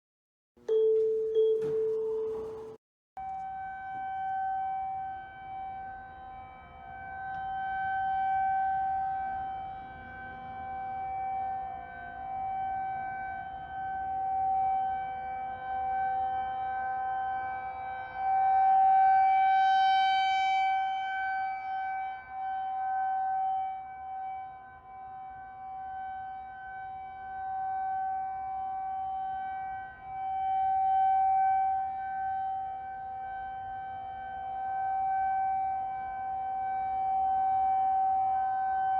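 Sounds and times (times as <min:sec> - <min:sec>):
tornado siren wailing: 0:01.6 - 0:38.9.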